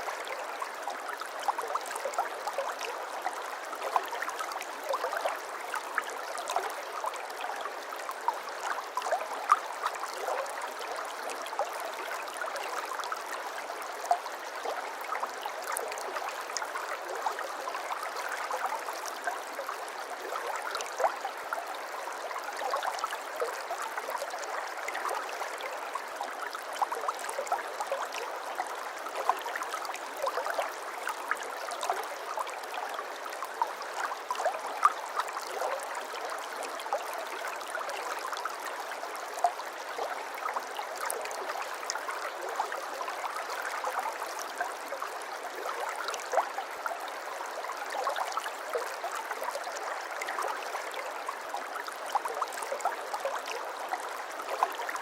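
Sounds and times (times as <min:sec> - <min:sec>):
water babbling and trickling: 0:00.0 - 0:55.0.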